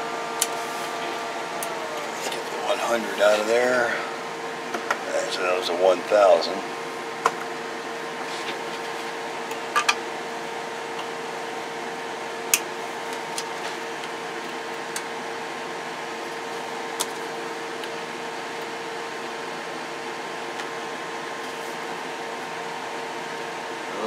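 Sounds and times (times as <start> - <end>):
equipment fan hum: 0.0 - 24.0.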